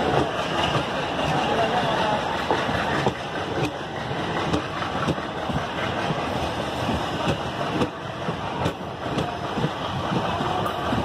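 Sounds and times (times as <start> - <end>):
train coaches rushing past: 0.0 - 11.0
wheels clattering over rail joints: 0.0 - 11.0.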